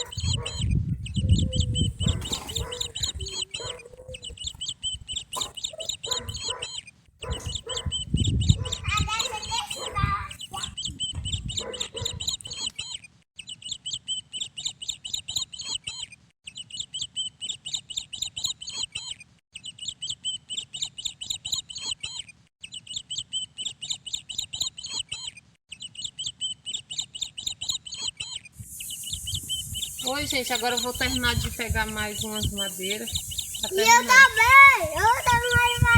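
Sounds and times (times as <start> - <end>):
rapid high-pitched bird chirping: 0.0 - 35.9.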